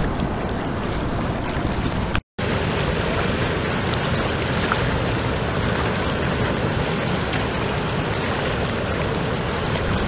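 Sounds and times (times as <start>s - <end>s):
river water rushing: 0.0s - 10.0s
wind on microphone: 0.0s - 10.0s.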